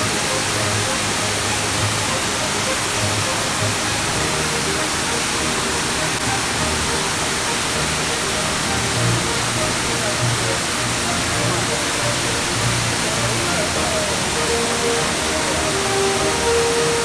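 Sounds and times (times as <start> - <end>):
soft background music: 0.0 - 17.0
waterfall roaring: 0.0 - 17.0.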